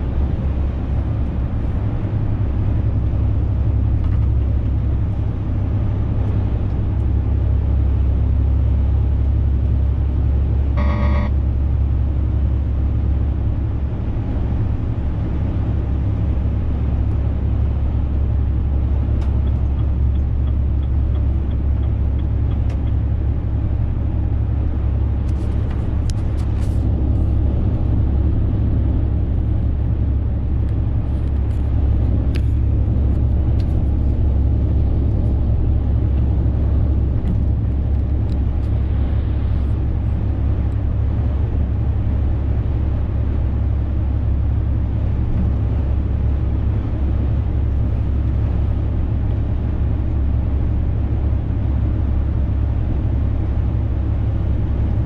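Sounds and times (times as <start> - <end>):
truck diesel engine driving: 0.0 - 55.0.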